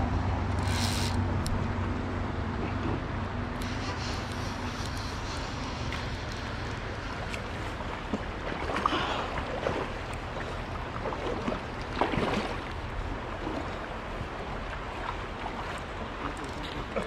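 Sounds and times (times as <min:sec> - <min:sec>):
river water splashing: 0:00.0 - 0:17.0.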